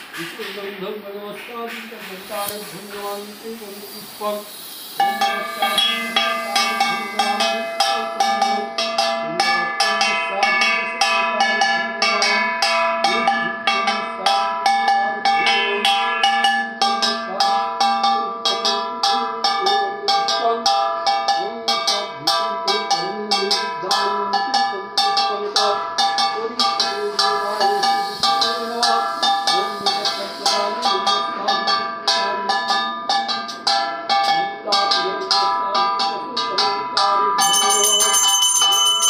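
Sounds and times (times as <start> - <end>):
brass hand bell ringing: 2.3 - 39.0.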